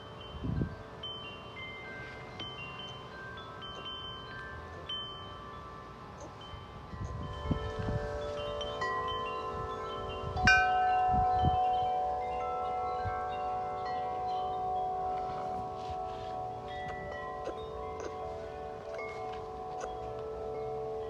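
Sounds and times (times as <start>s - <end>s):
large wind chimes ringing: 0.0s - 21.0s
wind gusts rumbling on microphone: 0.0s - 21.0s.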